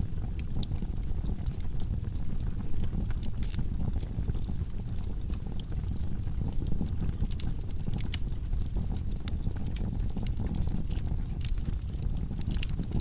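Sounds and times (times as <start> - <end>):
fire crackles and pops: 0.0 - 13.0.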